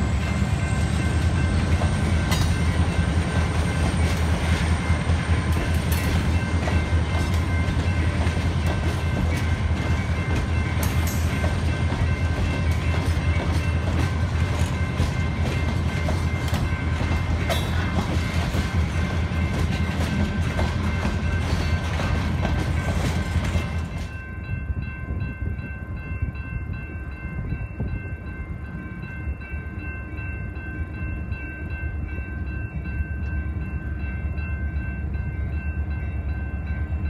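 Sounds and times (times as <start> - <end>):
steel wheels rumbling on rail: 0.0 - 37.0.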